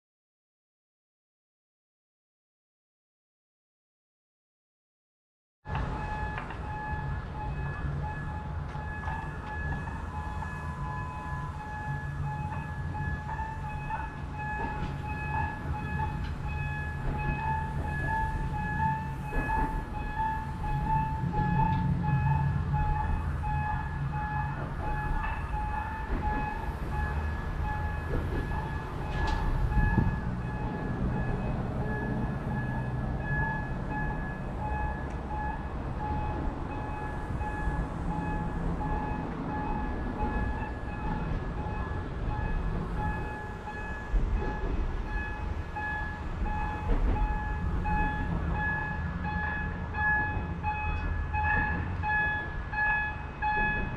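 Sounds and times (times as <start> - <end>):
steam train rumbling: 5.7 - 53.9.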